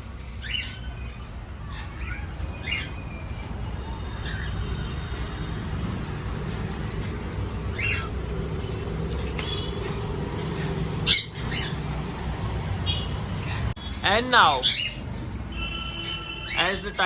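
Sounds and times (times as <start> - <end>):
parrots calling: 0.1 - 17.0.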